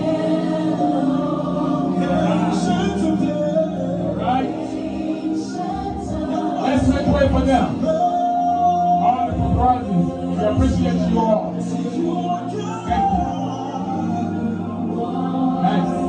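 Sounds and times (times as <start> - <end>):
several voices singing: 0.0 - 16.0.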